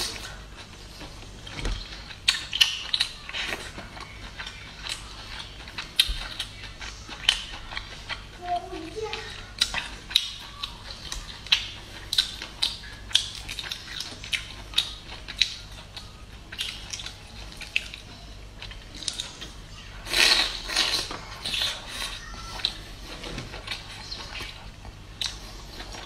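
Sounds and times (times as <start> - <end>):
person chewing: 0.0 - 26.0.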